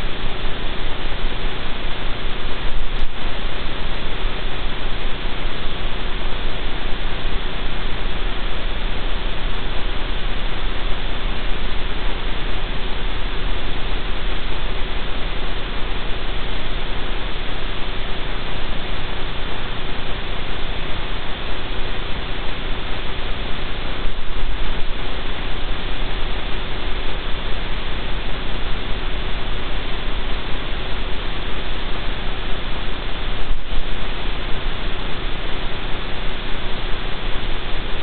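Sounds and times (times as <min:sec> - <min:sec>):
faint hum: 0:00.0 - 0:38.0
static hiss: 0:00.0 - 0:38.0.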